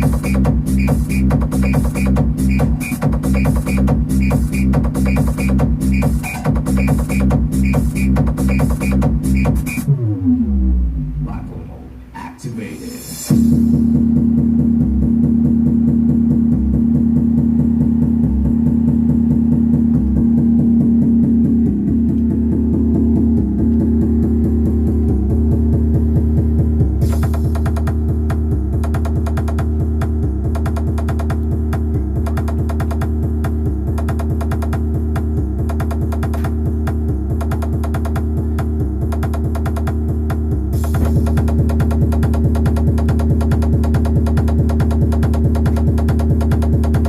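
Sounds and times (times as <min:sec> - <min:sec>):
bass-heavy music over loudspeakers: 0:00.0 - 0:47.0.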